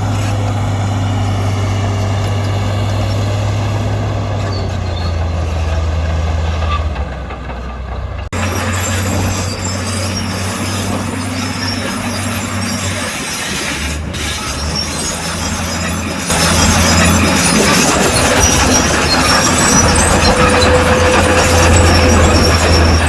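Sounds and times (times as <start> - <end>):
diesel construction machinery running: 0.0 - 23.0
grinding noise: 0.0 - 23.0.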